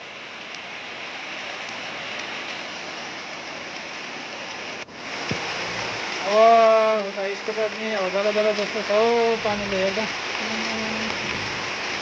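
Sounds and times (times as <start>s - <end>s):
heavy rain pouring: 0.0s - 12.0s
rushing floodwater: 0.0s - 12.0s.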